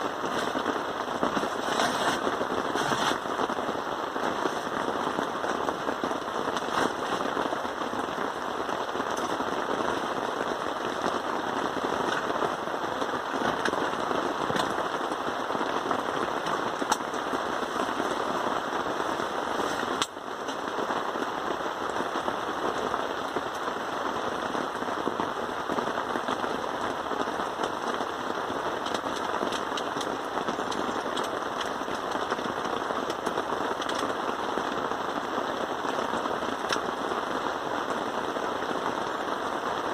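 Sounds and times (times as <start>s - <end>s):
heavy rain falling: 0.0s - 39.9s
raindrops hitting a surface: 0.0s - 39.9s.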